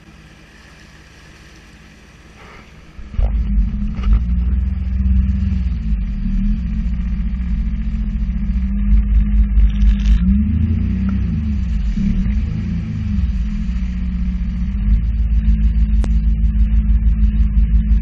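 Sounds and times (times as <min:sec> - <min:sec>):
jet ski engine rumble: 0:00.0 - 0:18.0.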